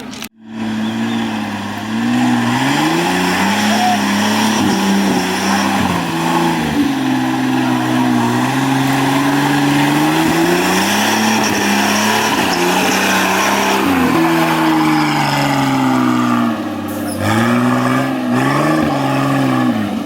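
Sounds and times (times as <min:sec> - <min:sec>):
engine under hard throttle: 0:00.0 - 0:20.0.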